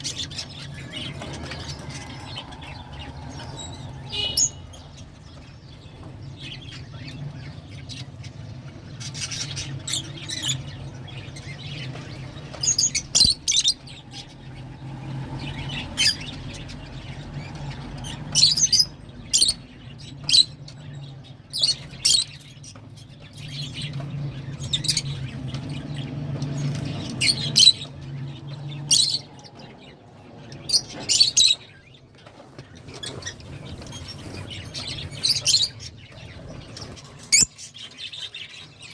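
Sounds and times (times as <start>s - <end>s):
lovebirds shrill calls: 0.0s - 5.1s, 9.0s - 14.3s, 15.5s - 25.9s, 26.6s - 29.7s, 30.5s - 31.9s, 32.9s - 38.9s.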